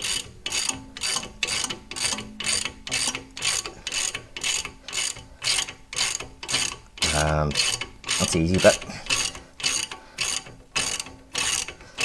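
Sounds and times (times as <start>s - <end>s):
hand ratchet clicking: 0.0s - 12.0s.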